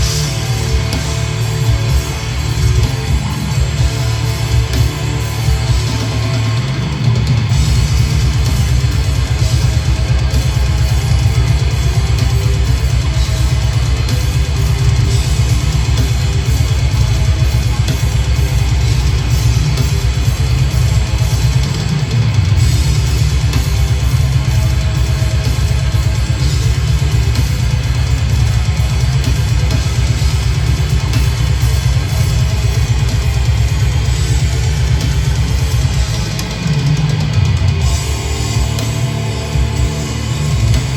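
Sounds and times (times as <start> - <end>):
bass guitar: 0.0 - 40.9
distorted electric guitars: 0.0 - 40.9
fast driving drum kit: 0.0 - 40.9.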